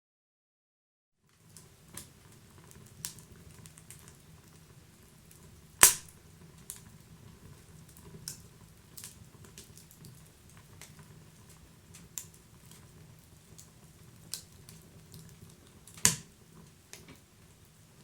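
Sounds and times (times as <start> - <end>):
wood fire crackling: 1.2 - 18.0.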